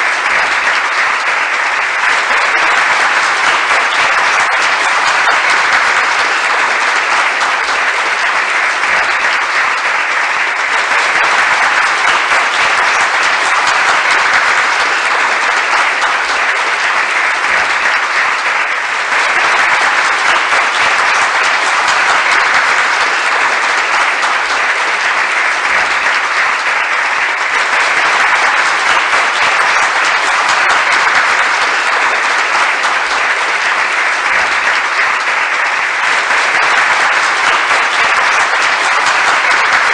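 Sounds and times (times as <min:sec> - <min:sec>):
crowd applauding: 0:00.0 - 0:39.9.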